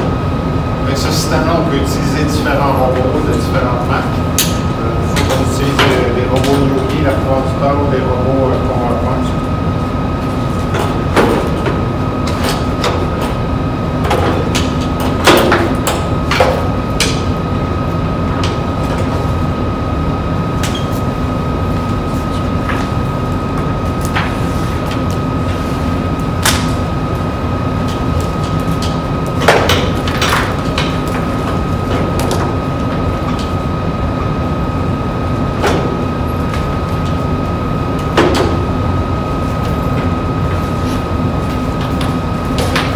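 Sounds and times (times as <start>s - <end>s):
steady hum with high whine: 0.0s - 42.9s.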